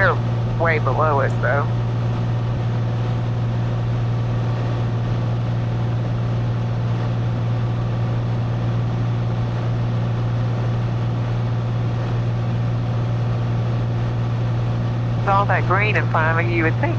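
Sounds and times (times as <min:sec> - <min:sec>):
light aircraft engine droning: 0:00.0 - 0:16.9.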